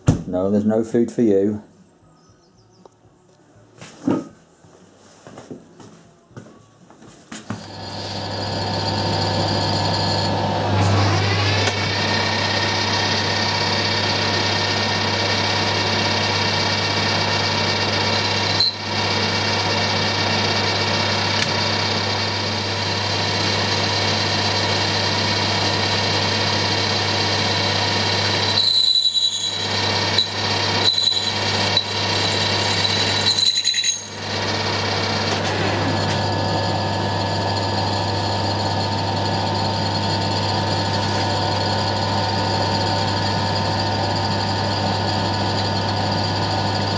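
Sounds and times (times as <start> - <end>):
high lathe whine: 7.5 - 46.9
metal lathe humming: 7.5 - 46.9.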